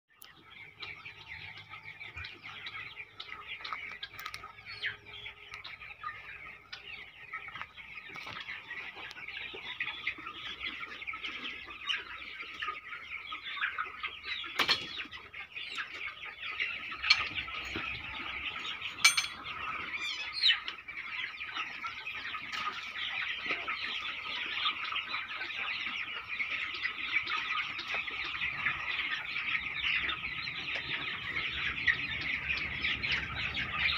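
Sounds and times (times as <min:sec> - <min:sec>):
chickens peeping and cheeping: 0:00.1 - 0:33.9.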